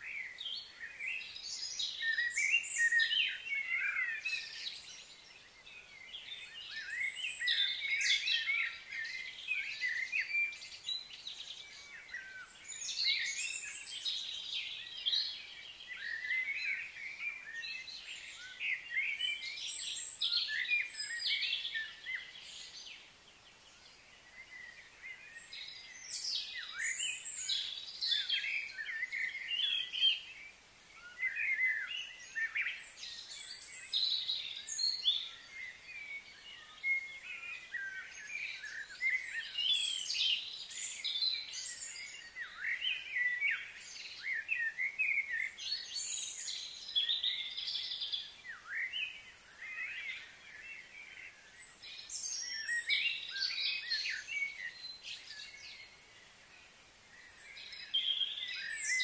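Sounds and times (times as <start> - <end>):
birds chirping and singing: 0.2 - 59.0.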